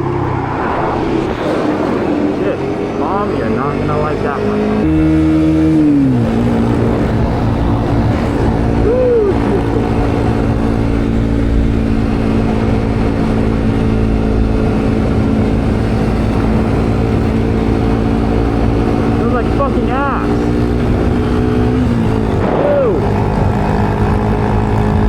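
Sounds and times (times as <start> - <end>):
wind rushing over microphone: 0.0 - 3.8, 4.7 - 25.0
motorcycle engine running: 2.1 - 25.0.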